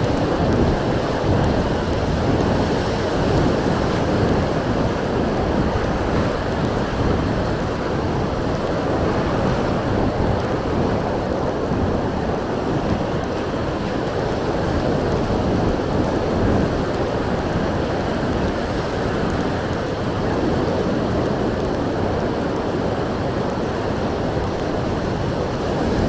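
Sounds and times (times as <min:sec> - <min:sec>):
surf washing in: 0:00.0 - 0:26.0
wind buffeting microphone: 0:00.0 - 0:26.0.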